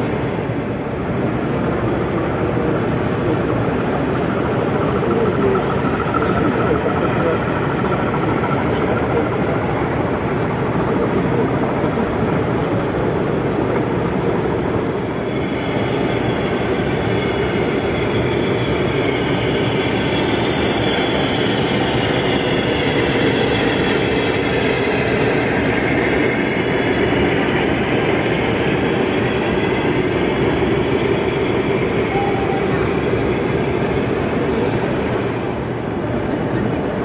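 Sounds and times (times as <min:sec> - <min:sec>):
model train wheels rumbling on rail: 0:00.0 - 0:37.0
faint wavering wheel squeals: 0:01.4 - 0:35.0.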